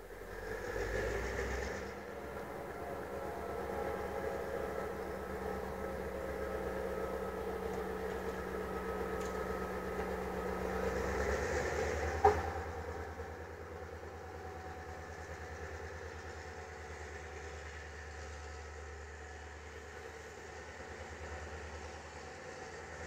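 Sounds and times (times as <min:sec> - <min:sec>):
diesel locomotive engine running: 0:00.0 - 0:23.0.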